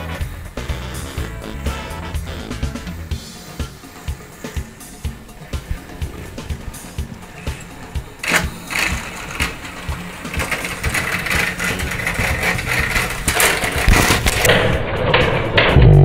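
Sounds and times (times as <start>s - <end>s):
toy train motors whirring: 0.0s - 14.5s.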